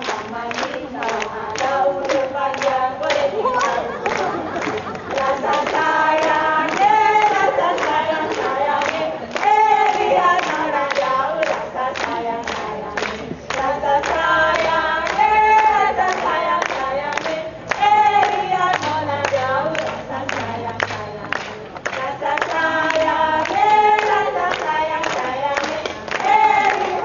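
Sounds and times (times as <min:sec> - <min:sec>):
group of voices singing: 0:00.0 - 0:27.0.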